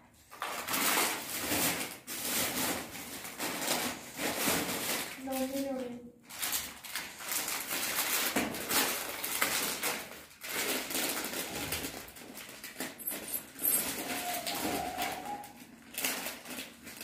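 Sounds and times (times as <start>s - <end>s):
plastic bags rustling: 0.1s - 17.0s.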